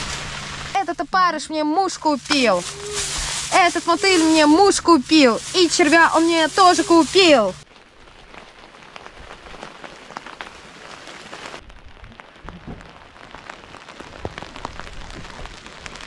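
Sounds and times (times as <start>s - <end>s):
rain pattering on a tent: 0.0s - 1.0s, 2.0s - 16.0s.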